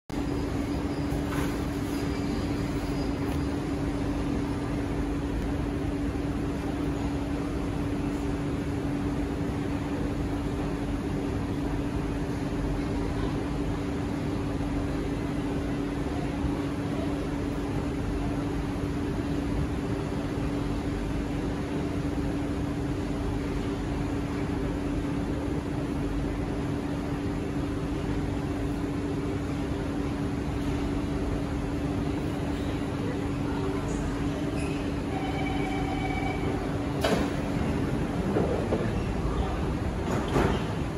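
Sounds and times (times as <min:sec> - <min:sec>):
air-conditioning rush: 0:00.1 - 0:40.9
train humming: 0:00.1 - 0:40.9.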